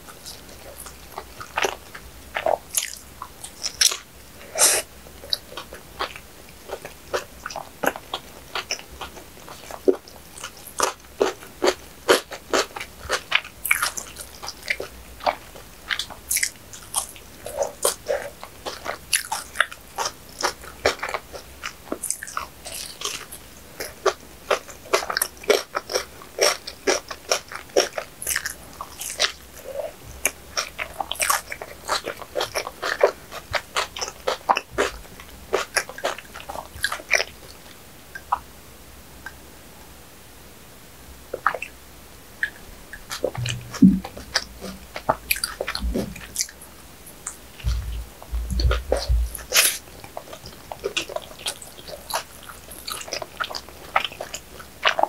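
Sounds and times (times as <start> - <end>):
crunchy pastry chewing: 0.0 - 38.5, 42.4 - 55.0.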